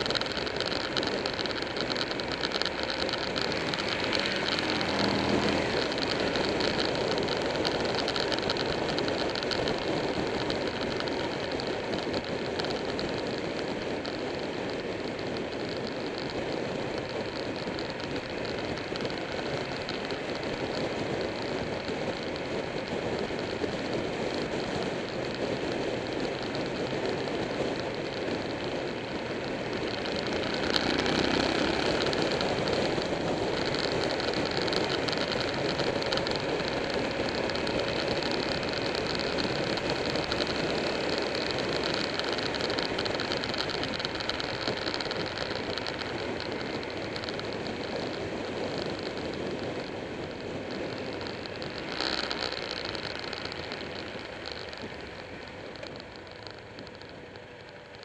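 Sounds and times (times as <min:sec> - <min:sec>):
motorcycle engine running: 0:00.0 - 0:58.0
wind rushing over camera: 0:00.0 - 0:58.0.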